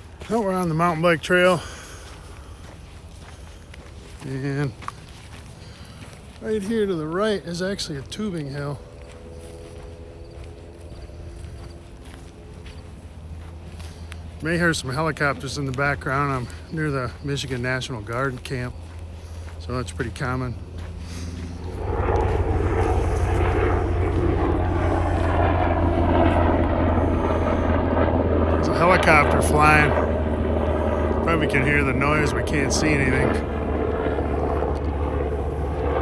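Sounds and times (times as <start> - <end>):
distant helicopter drone: 0.0 - 36.0
footsteps on dirt trail: 0.0 - 36.0.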